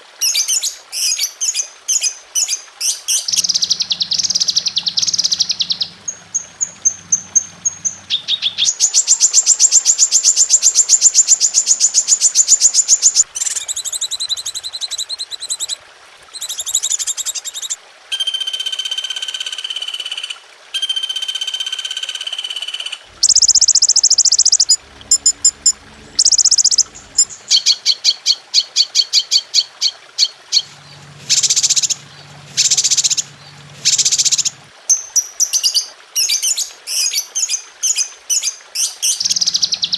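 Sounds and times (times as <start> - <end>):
recorded songbird songs: 0.1 - 39.9.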